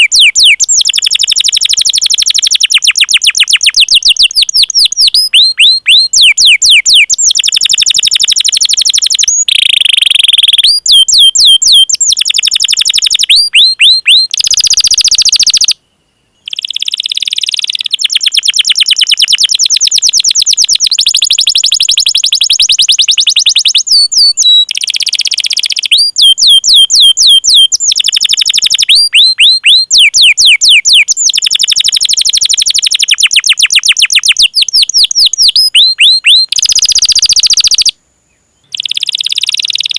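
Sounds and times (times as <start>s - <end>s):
canary singing: 0.0s - 15.8s, 16.4s - 38.0s, 38.6s - 39.9s.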